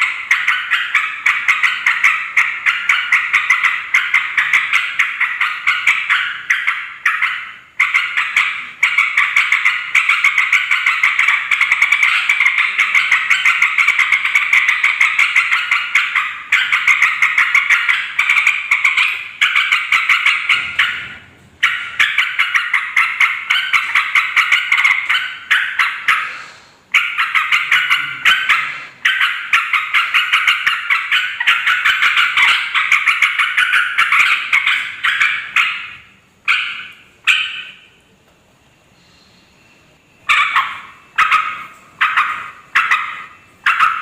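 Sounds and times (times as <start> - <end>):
bird chattering calls: 0.0 - 38.0, 40.2 - 44.0.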